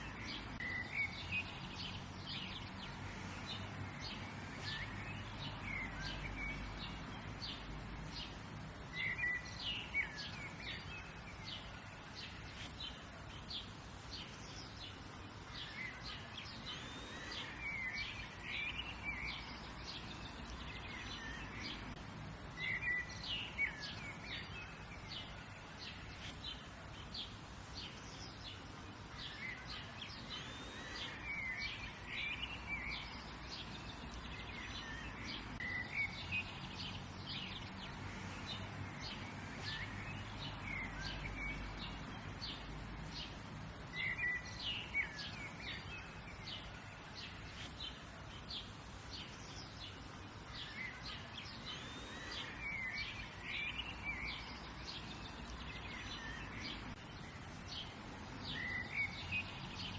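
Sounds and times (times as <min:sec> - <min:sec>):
outdoor background hiss: 0:00.0 - 0:59.9
wild birds chirping: 0:00.0 - 0:59.9.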